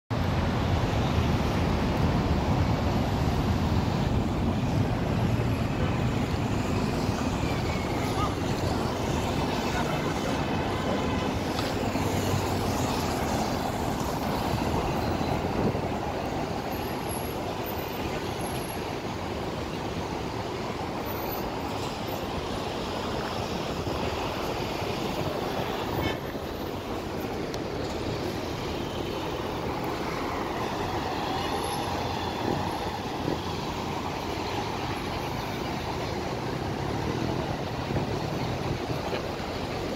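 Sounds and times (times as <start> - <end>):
cars passing by: 0.1 - 39.9.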